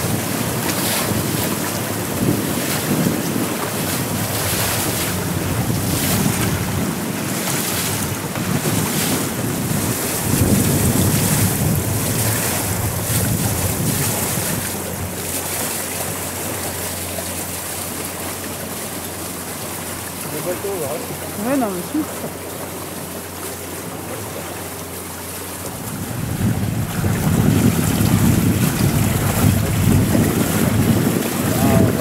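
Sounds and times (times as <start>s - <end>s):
wind buffeting microphone: 0.0s - 19.8s, 23.1s - 32.0s
water lapping against hull: 0.0s - 32.0s.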